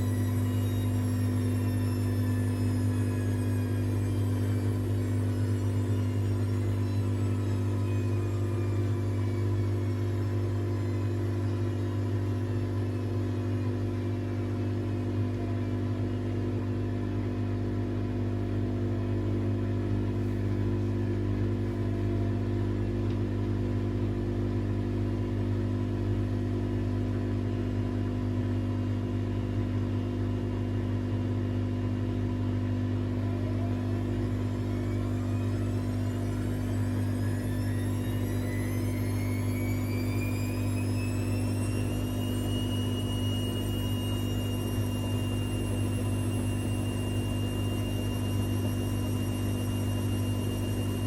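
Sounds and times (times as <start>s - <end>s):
washing machine spinning: 0.0s - 51.0s.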